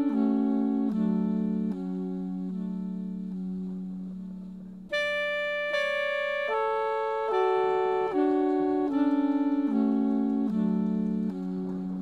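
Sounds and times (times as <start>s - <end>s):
experimental jazz instrumental: 0.0s - 12.0s.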